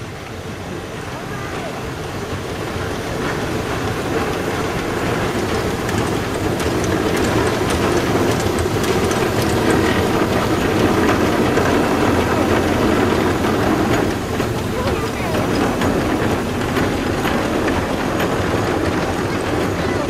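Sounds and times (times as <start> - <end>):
steam locomotive exhaust: 0.0 - 20.0
geared drive and wheels clattering: 0.1 - 20.0.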